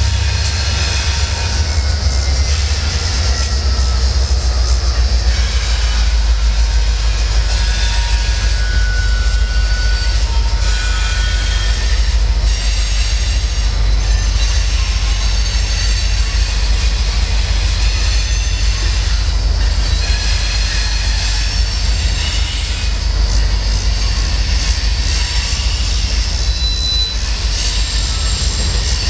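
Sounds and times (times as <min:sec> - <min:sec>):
high wheel squeals: 0:00.0 - 0:29.0
train wheels rumbling: 0:00.0 - 0:29.0.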